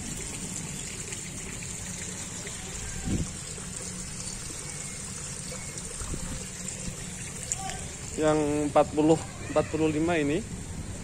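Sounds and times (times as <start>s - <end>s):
water splashing into pond: 0.0s - 9.6s.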